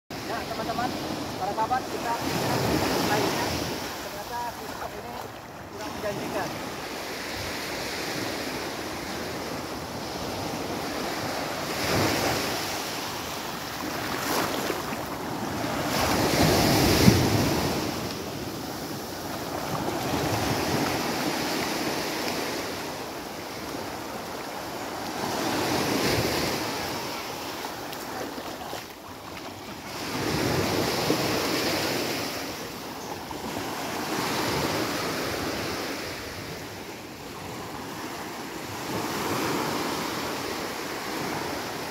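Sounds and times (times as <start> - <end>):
waves washing up a beach: 0.1 - 41.9.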